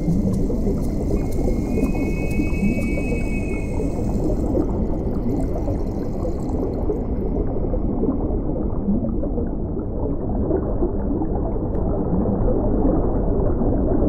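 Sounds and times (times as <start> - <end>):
pond water splashing and gurgling: 0.0 - 13.8.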